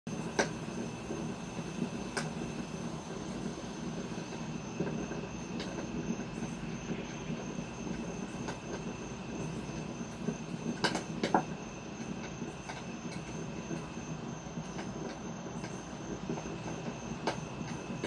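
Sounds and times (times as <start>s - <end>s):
fire crackling pops: 0.1s - 18.0s.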